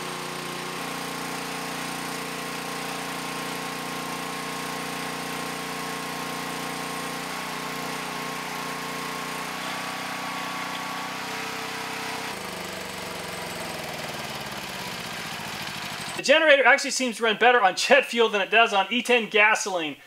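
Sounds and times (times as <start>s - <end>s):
generator engine running: 0.0s - 16.2s.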